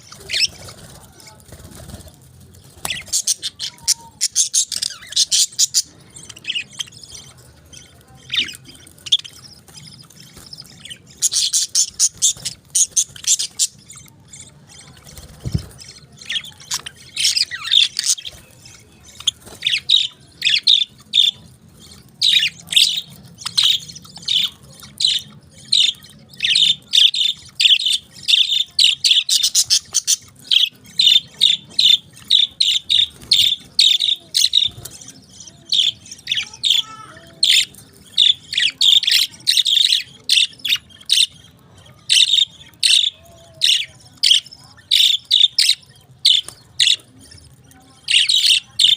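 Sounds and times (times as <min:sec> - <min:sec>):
parakeets chirping rapidly: 0:00.0 - 0:48.9.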